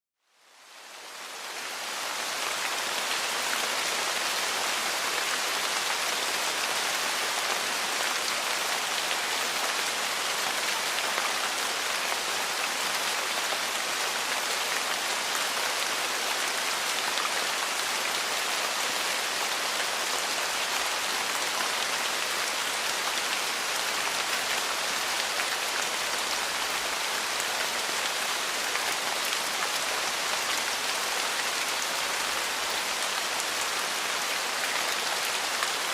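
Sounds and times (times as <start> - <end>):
steady rainfall hiss: 0.3 - 35.9.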